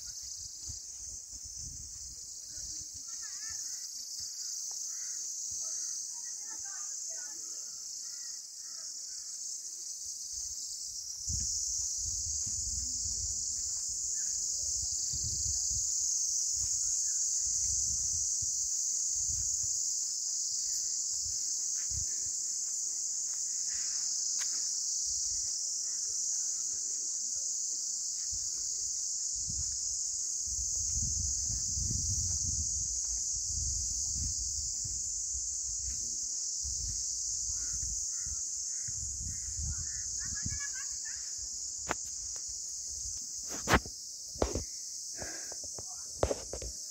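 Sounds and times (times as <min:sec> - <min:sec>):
shrill insect chorus: 0:00.0 - 0:46.9.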